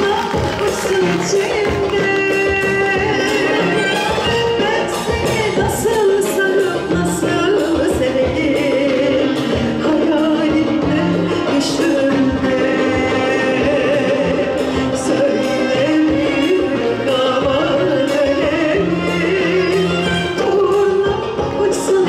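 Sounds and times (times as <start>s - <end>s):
musical accompaniment: 0.0s - 22.0s
woman singing into microphone: 0.0s - 22.0s.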